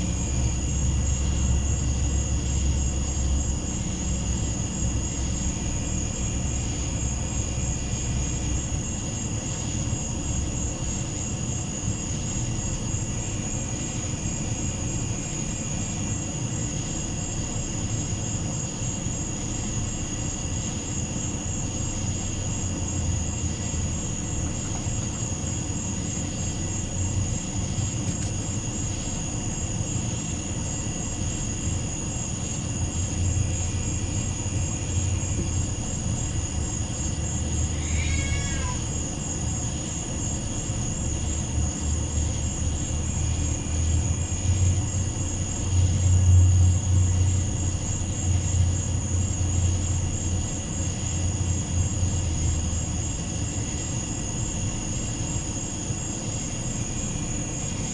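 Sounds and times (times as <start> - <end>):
constant low rumble: 0.0 - 57.9
night insects trilling: 0.0 - 57.9.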